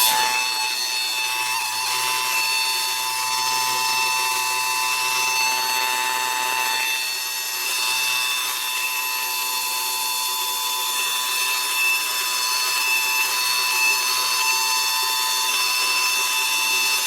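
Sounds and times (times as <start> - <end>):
handheld vacuum cleaner running: 0.0 - 17.0.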